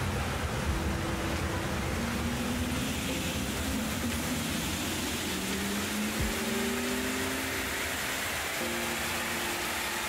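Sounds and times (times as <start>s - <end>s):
wheels rushing on rollers: 0.0s - 10.0s.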